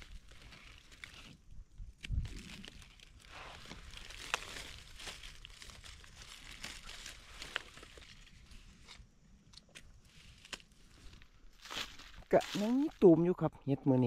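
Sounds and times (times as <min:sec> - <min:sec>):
twigs snapping: 0:00.0 - 0:13.0
leaves and twigs rustling: 0:00.0 - 0:14.0.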